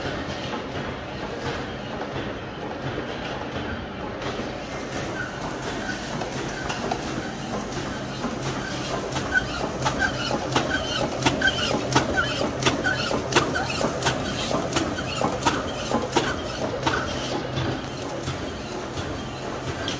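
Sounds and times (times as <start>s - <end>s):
printing machine clattering: 0.0s - 19.9s.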